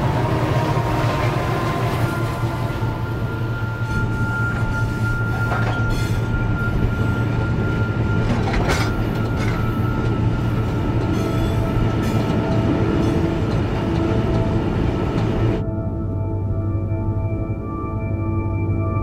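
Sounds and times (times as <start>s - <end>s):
train wagons rumbling and rattling: 0.0s - 15.6s.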